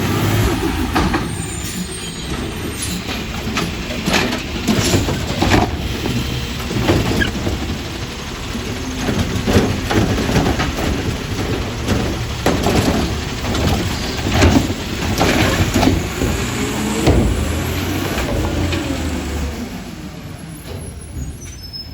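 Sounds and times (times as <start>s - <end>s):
garbage truck engine running: 0.0s - 21.9s.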